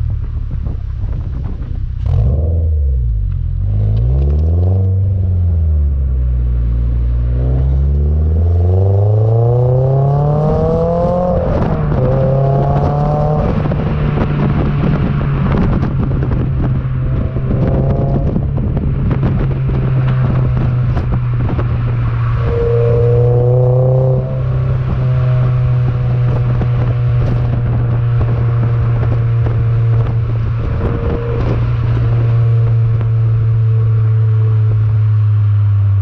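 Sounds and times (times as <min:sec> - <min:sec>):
car engine drone: 0:00.0 - 0:36.0
tyre and road noise: 0:00.0 - 0:36.0.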